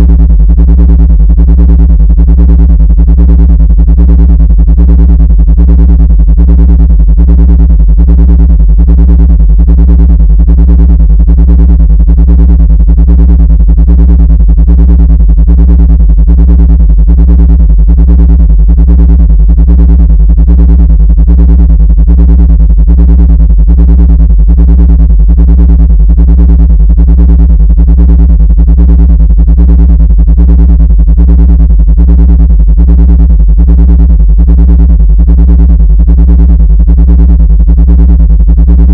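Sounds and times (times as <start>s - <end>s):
pulsing synthesized buzzing tone: 0.0s - 38.9s.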